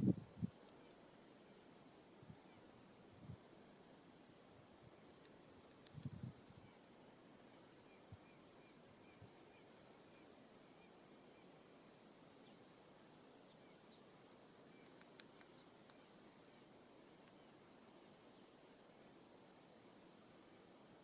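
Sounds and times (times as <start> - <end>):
outdoor hiss: 0.0 - 21.0
songbird chirping: 0.0 - 21.0.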